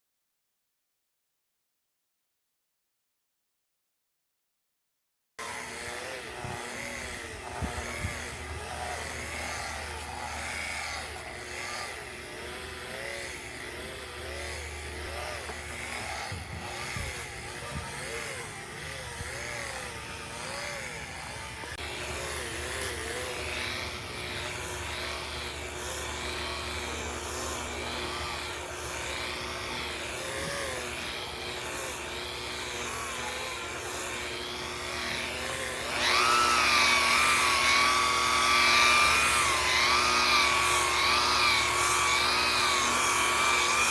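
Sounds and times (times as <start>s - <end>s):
power tool motor running: 5.4s - 43.9s.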